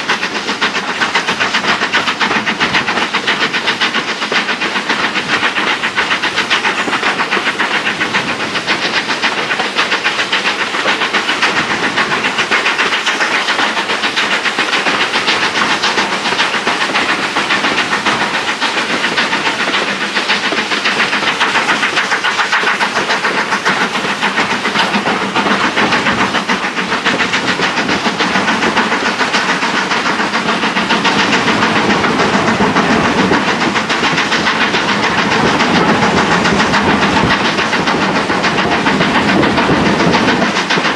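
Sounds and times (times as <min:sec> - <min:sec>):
train wheels on rails: 0:00.0 - 0:40.9.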